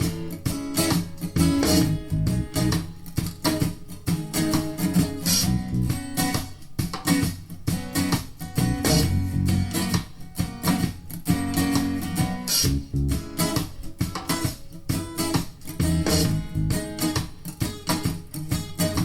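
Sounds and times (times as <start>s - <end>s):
plucked guitar music over speakers: 0.0s - 19.0s.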